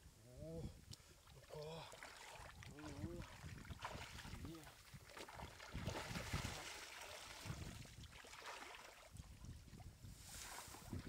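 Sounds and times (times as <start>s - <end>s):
shallow water sloshing and splashing: 1.0s - 11.0s.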